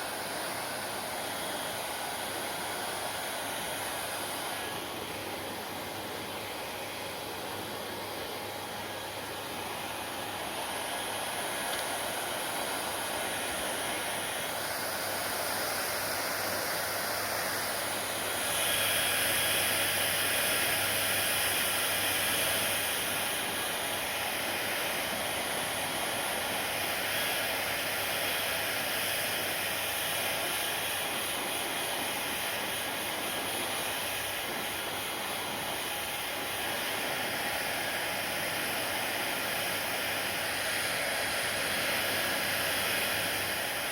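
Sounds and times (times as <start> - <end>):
hair dryer running: 0.0 - 43.9.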